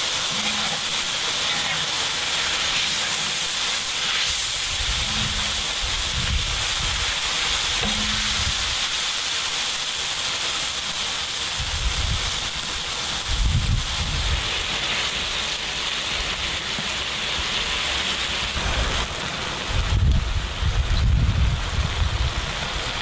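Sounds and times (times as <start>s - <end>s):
mushrooms sizzling in a pan: 0.0s - 23.0s.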